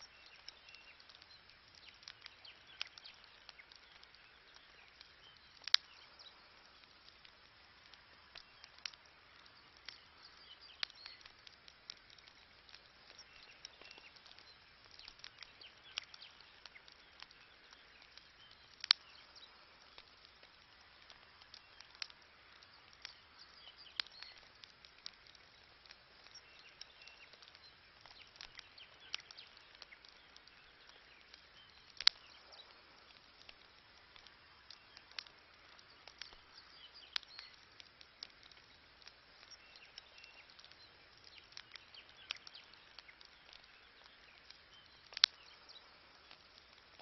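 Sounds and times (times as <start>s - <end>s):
campfire crackling: 0.0s - 47.0s.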